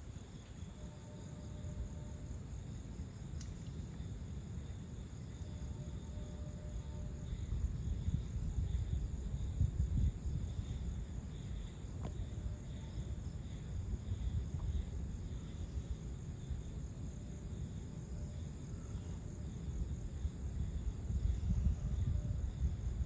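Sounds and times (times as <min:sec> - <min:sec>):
constant low rumble: 0:00.0 - 0:23.0
insects chirping: 0:00.0 - 0:23.0.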